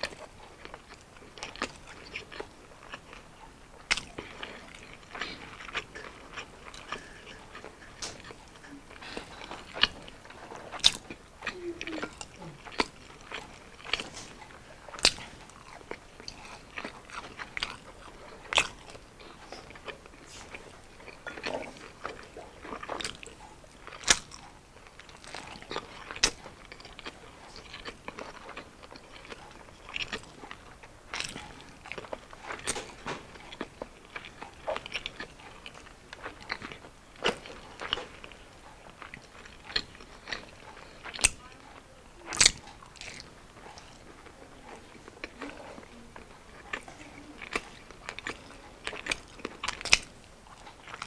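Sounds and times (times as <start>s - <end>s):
person chewing crunchy food: 0.0s - 51.0s.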